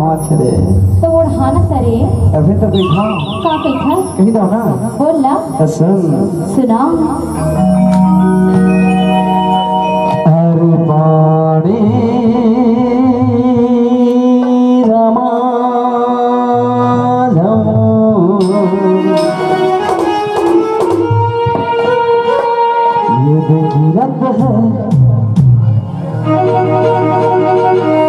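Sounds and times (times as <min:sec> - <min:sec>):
keyboard melody: 0:00.0 - 0:28.0.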